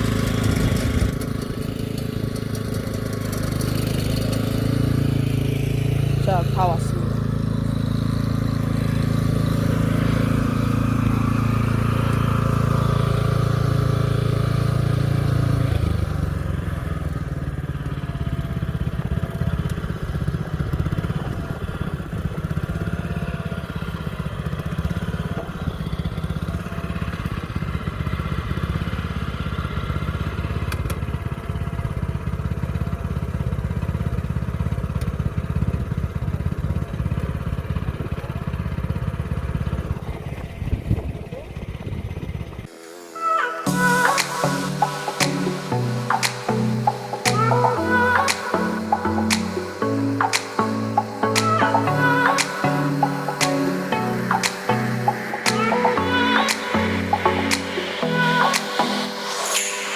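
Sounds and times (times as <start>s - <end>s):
small cultivator engine running: 0.0s - 59.4s.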